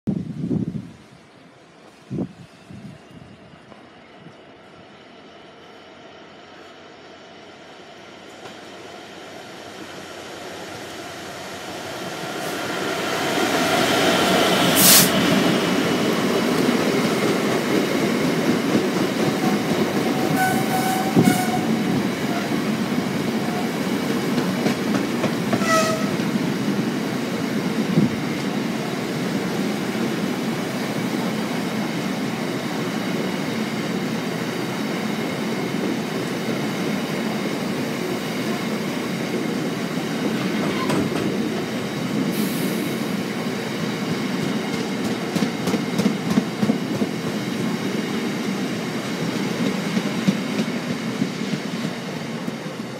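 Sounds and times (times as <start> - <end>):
train wheels rumbling on rail: 1.8 - 52.9.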